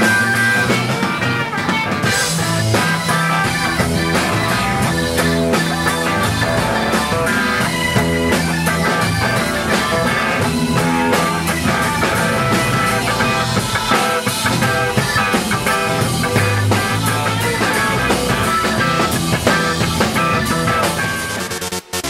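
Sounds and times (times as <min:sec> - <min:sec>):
drum kit: 0:00.0 - 0:22.0
electric guitar: 0:00.0 - 0:22.0.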